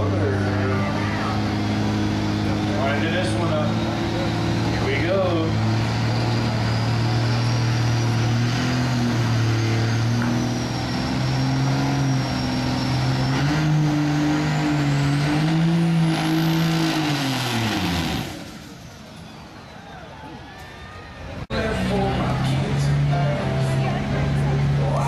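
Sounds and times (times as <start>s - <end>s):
diesel engine at full throttle: 0.0s - 20.5s, 21.2s - 25.0s.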